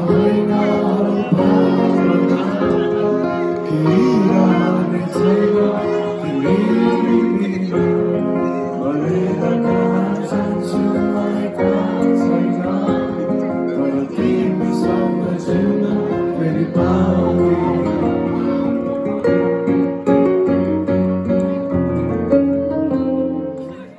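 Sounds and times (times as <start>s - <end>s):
person singing: 0.0s - 21.8s
live band with guitars: 0.0s - 23.9s.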